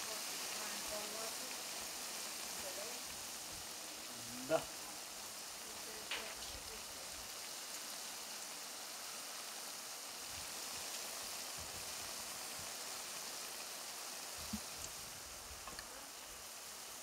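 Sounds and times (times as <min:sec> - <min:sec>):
pastries sizzling in hot oil: 0:00.0 - 0:17.0.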